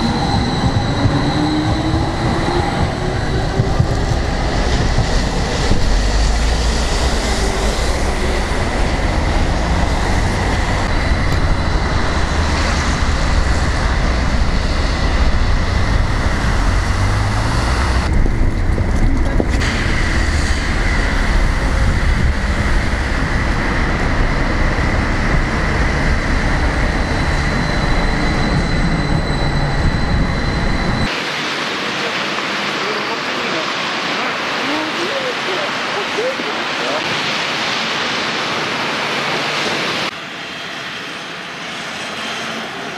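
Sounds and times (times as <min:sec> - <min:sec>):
tram rumbling: 0:00.0 - 0:40.6
high whine: 0:00.0 - 0:42.9.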